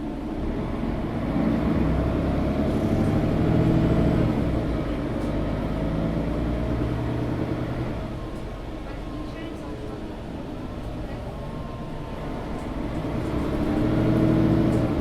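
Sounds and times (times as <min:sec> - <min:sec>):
bus engine while driving: 0:00.0 - 0:15.0.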